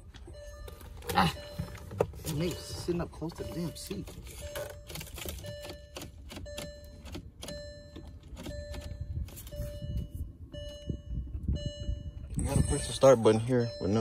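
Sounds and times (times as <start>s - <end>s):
car warning chime: 0.0s - 14.0s.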